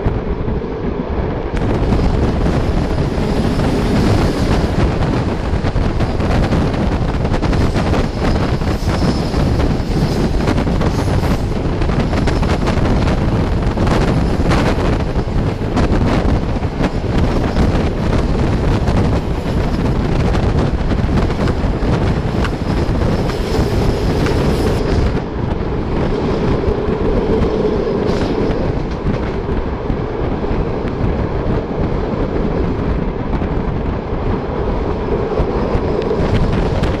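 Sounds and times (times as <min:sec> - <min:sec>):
train wheels rumbling on rails: 0:00.0 - 0:37.0
wind buffeting microphone: 0:00.0 - 0:37.0.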